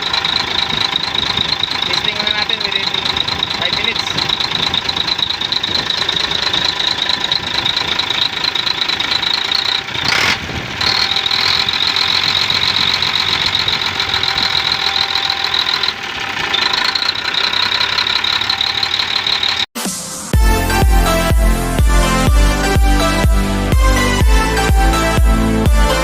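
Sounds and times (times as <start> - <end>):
diesel truck engine clattering: 0.0 - 19.7, 20.3 - 26.0.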